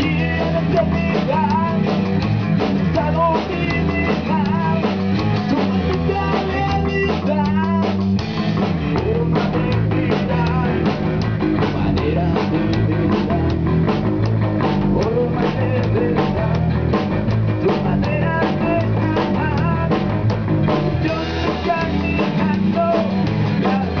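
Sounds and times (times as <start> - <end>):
drum hits: 0.0 - 24.0
rock band playing live: 0.0 - 24.0.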